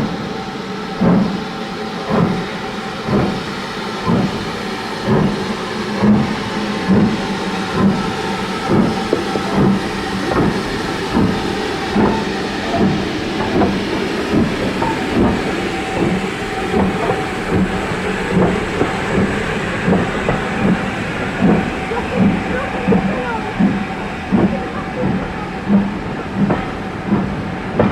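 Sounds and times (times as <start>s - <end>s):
steam hiss: 0.0s - 27.9s
steam train chuffing: 0.0s - 27.9s.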